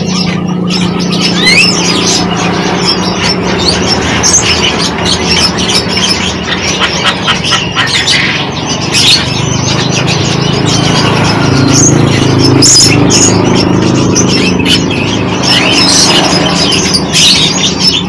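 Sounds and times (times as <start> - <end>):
songbirds chirping and squawking: 0.0 - 18.0.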